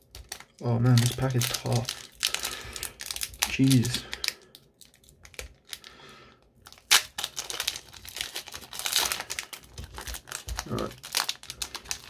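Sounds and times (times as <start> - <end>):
foil wrapper crinkling and tearing: 0.0 - 6.0, 6.6 - 12.0.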